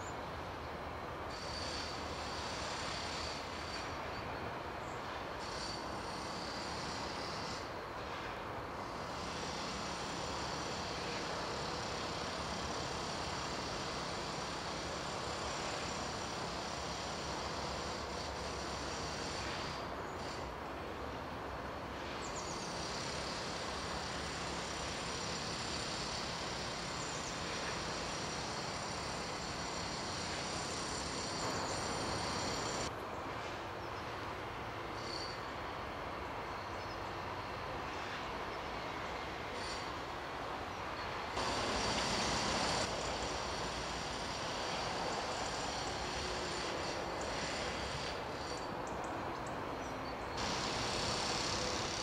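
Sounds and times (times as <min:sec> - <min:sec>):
steady background hiss: 0:00.0 - 0:52.0.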